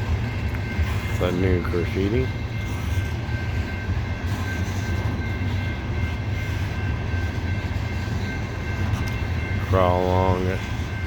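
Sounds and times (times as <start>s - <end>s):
freight train rolling rumble: 0.0s - 11.0s.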